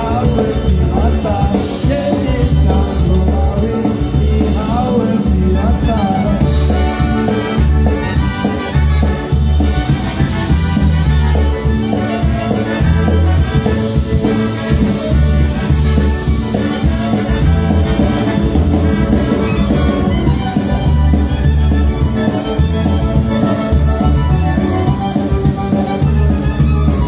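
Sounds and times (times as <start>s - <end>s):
polka band with brass: 0.0s - 27.0s.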